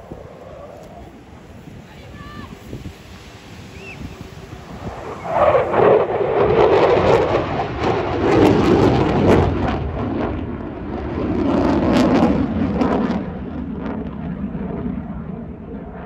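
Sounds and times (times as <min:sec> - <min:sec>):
crackling jet roar: 0:00.0 - 0:16.0.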